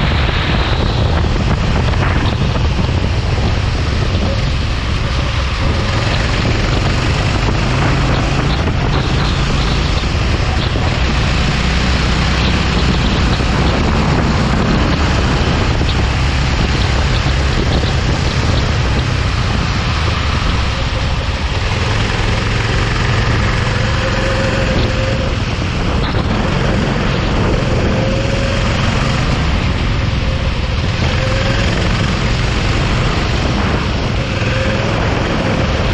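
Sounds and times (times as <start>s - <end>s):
go-kart engine running: 0.0s - 35.9s
wind noise on microphone: 0.0s - 35.9s.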